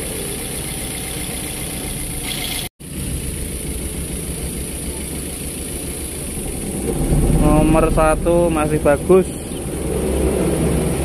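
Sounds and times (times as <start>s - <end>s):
misfiring engine idling: 0.0s - 11.0s.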